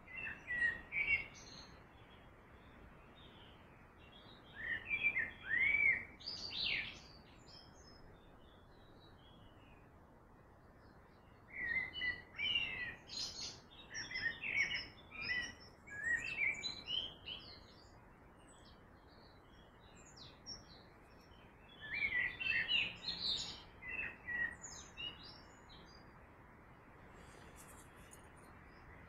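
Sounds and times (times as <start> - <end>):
songbirds chirping and warbling: 0.0 - 29.0
steady background hiss: 0.0 - 29.0.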